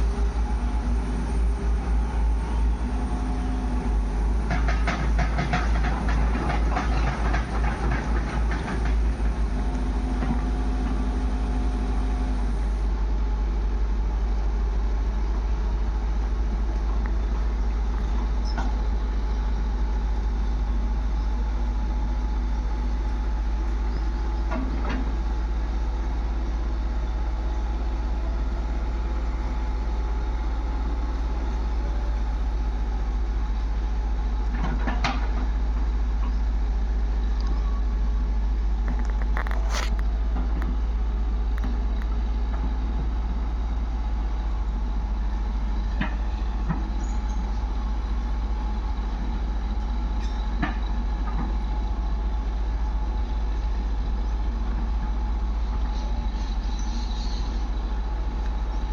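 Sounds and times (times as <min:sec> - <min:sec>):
diesel machinery rumbling: 0:00.0 - 0:58.9.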